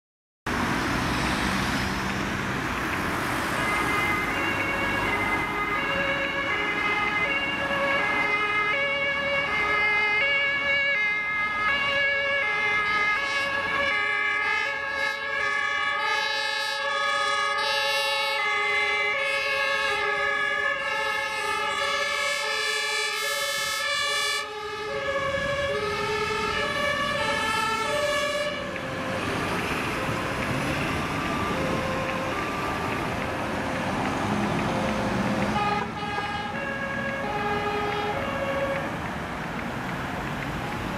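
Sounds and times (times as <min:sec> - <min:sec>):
passing traffic: 0:00.5 - 0:40.9
two-tone sirens: 0:00.5 - 0:40.9.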